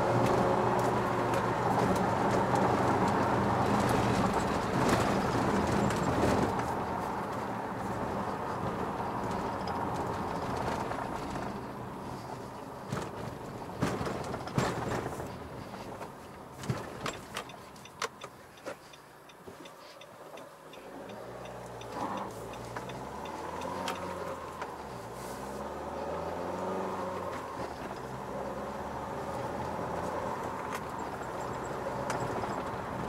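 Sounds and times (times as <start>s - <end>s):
diesel car engine: 0.0s - 33.0s
turn signal ticking: 0.0s - 33.0s.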